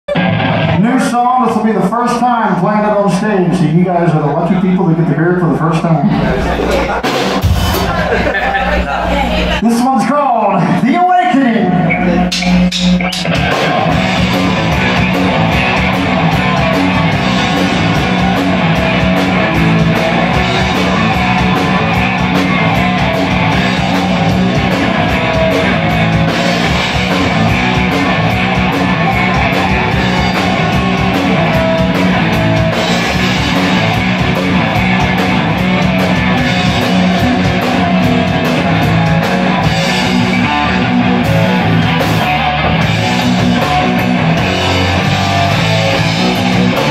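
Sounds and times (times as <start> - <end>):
bass guitar: 0.0 - 46.9
electric guitars: 0.0 - 46.9
drum kit: 0.1 - 5.2, 6.0 - 9.9, 11.8 - 46.9.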